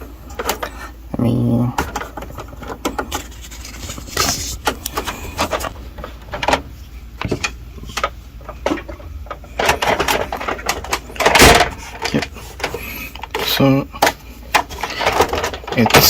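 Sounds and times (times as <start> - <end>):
plastic clatter: 0.0 - 0.9, 1.8 - 16.0
plastic clicking and knocking: 1.8 - 3.5, 4.1 - 16.0.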